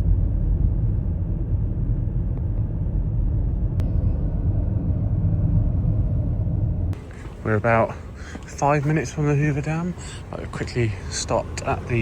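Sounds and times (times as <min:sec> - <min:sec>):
car engine and road noise: 0:00.6 - 0:12.0.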